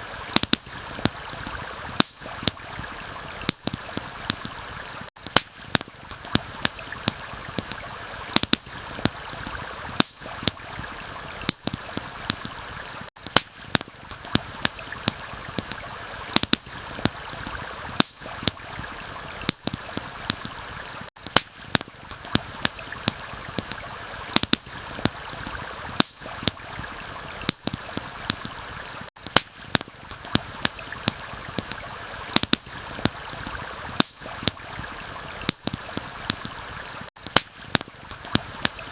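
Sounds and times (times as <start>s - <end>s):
campfire crackling and popping: 0.0s - 38.9s
stream flowing: 0.0s - 38.9s.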